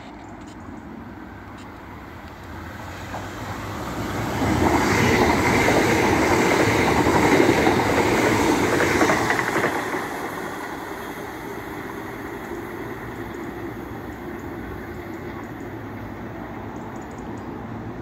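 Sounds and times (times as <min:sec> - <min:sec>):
diesel train passing at speed: 0:00.6 - 0:18.0.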